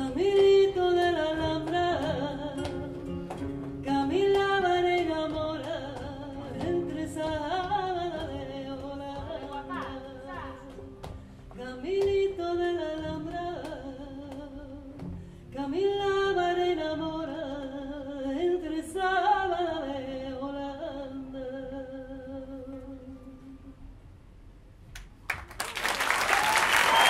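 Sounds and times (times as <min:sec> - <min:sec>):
woman singing flamenco: 0:00.0 - 0:23.8.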